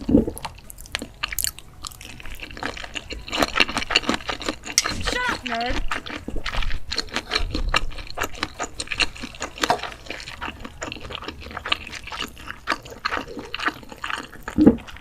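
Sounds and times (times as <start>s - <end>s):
wet chewing and slurping: 0.0s - 15.0s.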